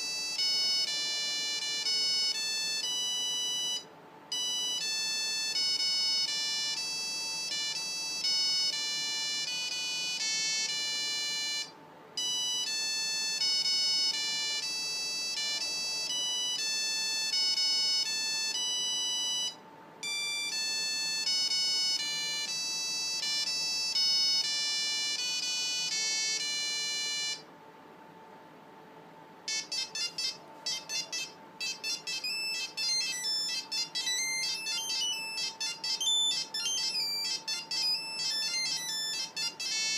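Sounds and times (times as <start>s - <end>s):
faster ringtone: 0.0s - 27.4s, 29.5s - 39.9s
mobile phone beeping ringtone: 0.0s - 27.4s, 29.5s - 39.9s.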